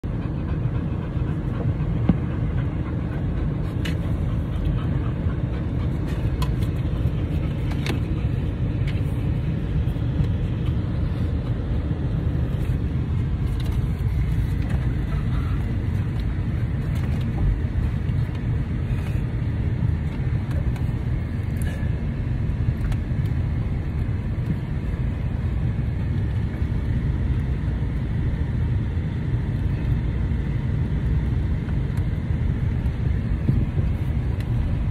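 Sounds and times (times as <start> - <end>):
road and engine rumble in car: 0.0 - 34.9.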